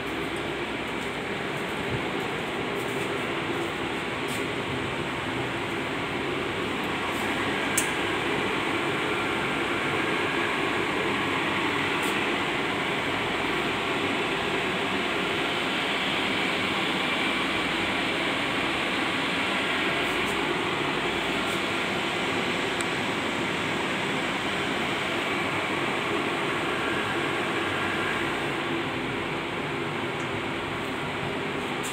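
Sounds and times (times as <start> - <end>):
air conditioning hum: 0.0 - 31.9.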